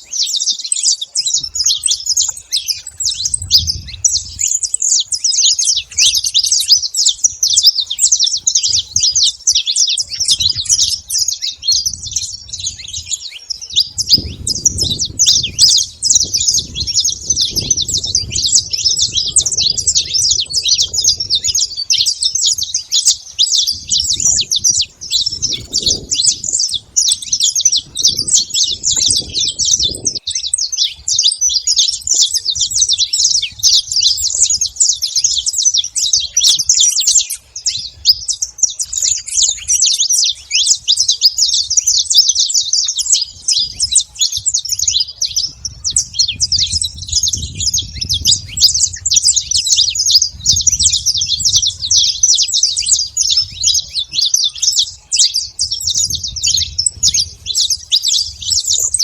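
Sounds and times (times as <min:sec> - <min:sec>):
flock of finches chirping: 0:00.0 - 0:59.0.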